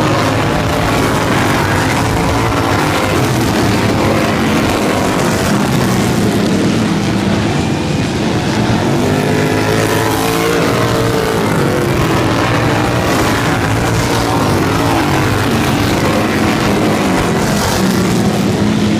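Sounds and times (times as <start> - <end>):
lawn mower engines racing by: 0.0 - 18.9.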